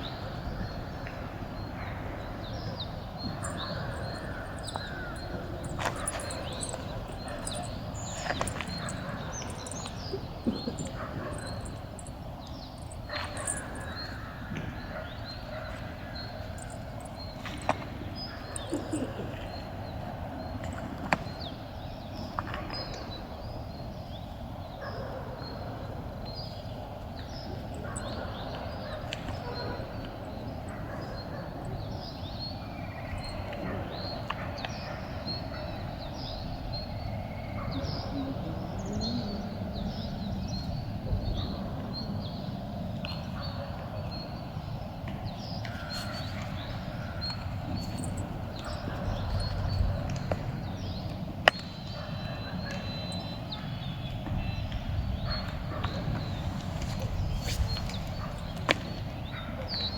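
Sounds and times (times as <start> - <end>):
birds chirping: 0.0 - 21.9, 26.4 - 42.2, 45.5 - 59.9.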